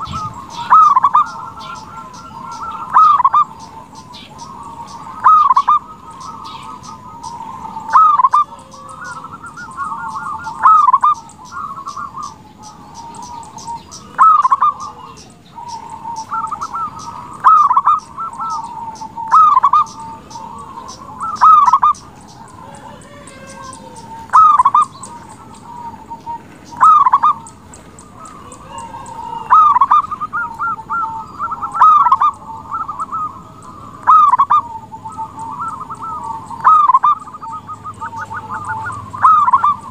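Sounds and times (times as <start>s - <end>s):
high-pitched ticking chirps: 0.0s - 25.8s, 26.6s - 39.9s
dove trilled cooing: 0.0s - 39.9s.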